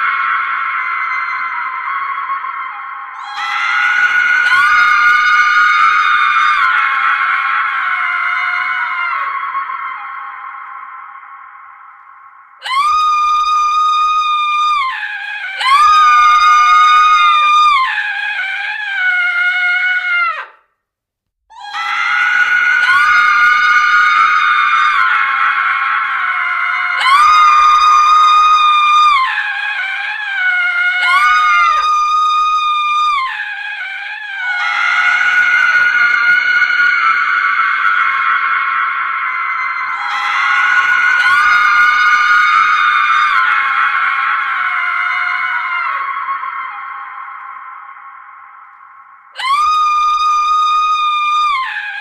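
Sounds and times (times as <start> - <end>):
woman screaming: 0.0 - 11.3, 12.6 - 20.6, 21.5 - 48.7, 49.4 - 52.0.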